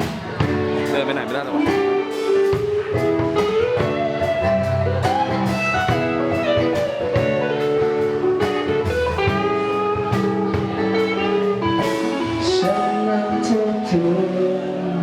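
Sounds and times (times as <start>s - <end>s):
bass guitar: 0.0s - 15.0s
drums: 0.0s - 15.0s
guitar: 0.0s - 15.0s.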